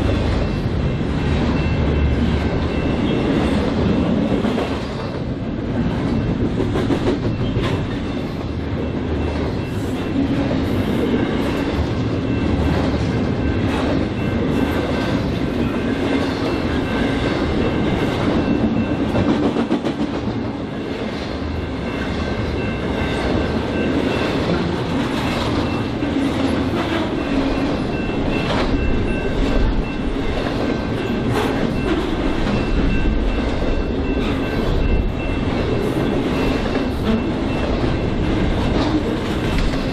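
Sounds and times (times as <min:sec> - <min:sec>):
train wheels clicking over rails: 0:00.0 - 0:39.9.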